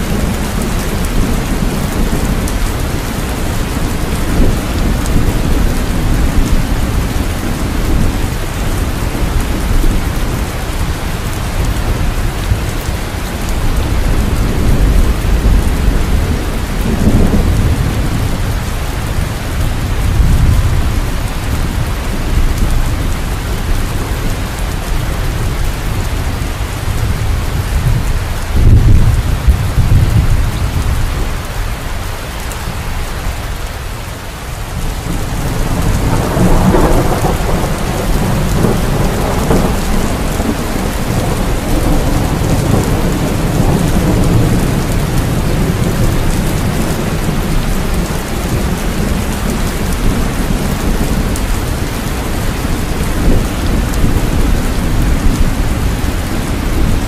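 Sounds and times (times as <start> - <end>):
low rolling thunder: 0.0 - 57.0
steady rain: 0.0 - 57.0.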